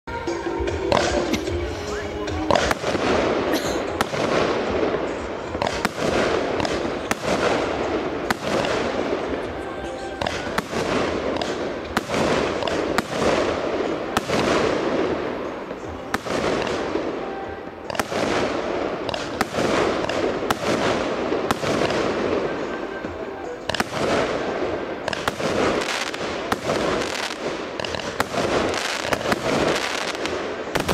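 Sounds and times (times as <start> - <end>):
firework crackle: 0.1 - 30.9
firework shells bursting: 2.5 - 30.9.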